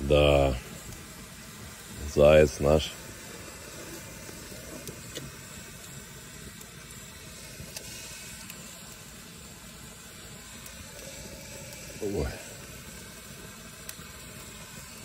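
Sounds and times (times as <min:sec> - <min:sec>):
burning wood crackling and popping: 0:00.0 - 0:15.0
wood fire hissing: 0:00.0 - 0:15.0.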